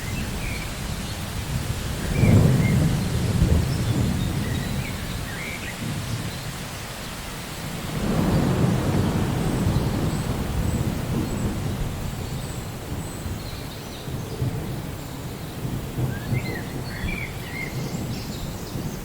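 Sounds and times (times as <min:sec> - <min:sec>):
rolling thunder: 0:00.0 - 0:06.6, 0:07.6 - 0:19.0
steady rain: 0:00.0 - 0:19.0.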